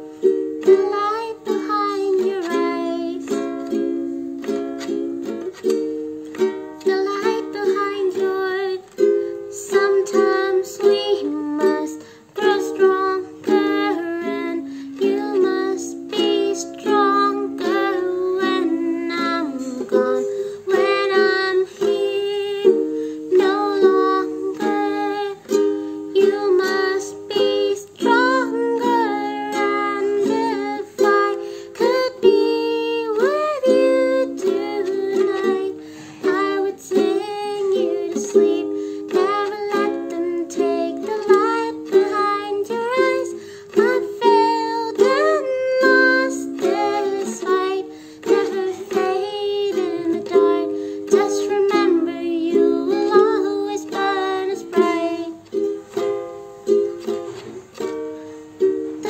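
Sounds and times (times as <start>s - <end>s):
woman singing: 0.0s - 56.1s
ukulele strumming: 0.0s - 59.0s.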